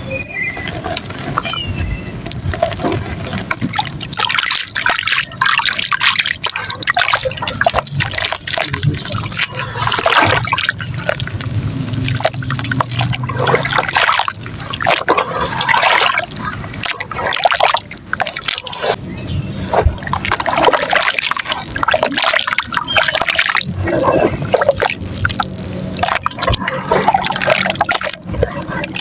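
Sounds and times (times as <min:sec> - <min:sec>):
wet mud crackling in water: 0:00.0 - 0:29.0.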